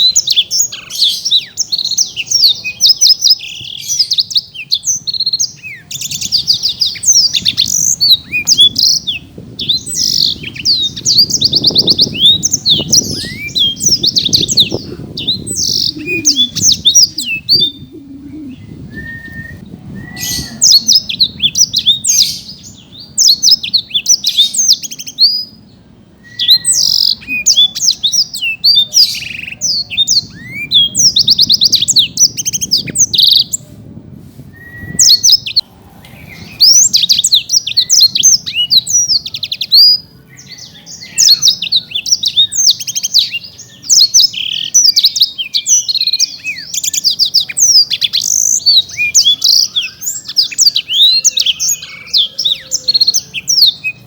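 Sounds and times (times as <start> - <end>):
canary singing chirps and trills: 0.0 - 33.7, 34.6 - 54.0.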